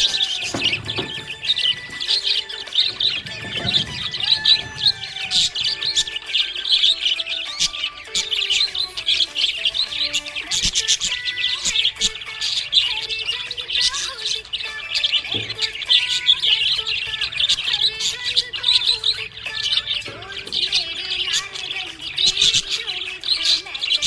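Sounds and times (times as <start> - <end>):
parrots chirping and chattering: 0.0 - 24.0.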